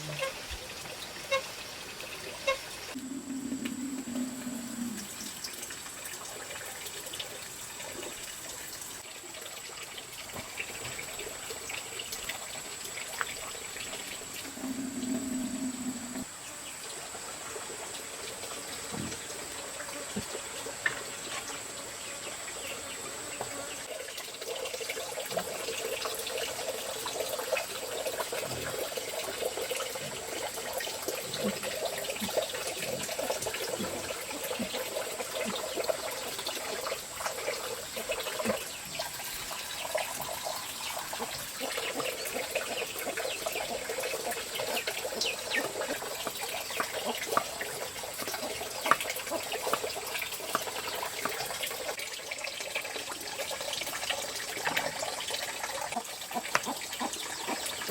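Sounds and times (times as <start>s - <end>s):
water trickling and splashing: 0.0s - 57.9s.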